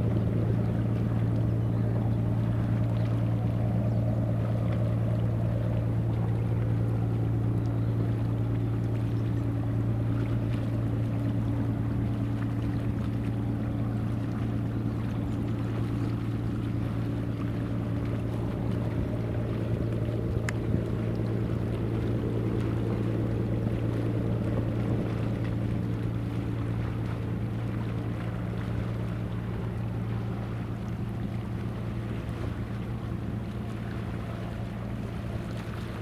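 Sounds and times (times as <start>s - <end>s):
boat engine drone: 0.0s - 36.0s
water noise: 0.0s - 36.0s
wind: 0.0s - 36.0s.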